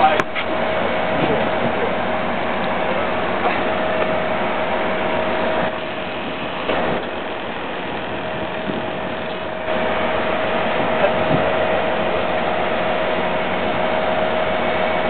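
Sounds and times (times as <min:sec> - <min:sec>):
boat engine running: 0:00.0 - 0:15.0
thin steady whine: 0:00.0 - 0:15.0
wind and water hiss: 0:00.0 - 0:15.0.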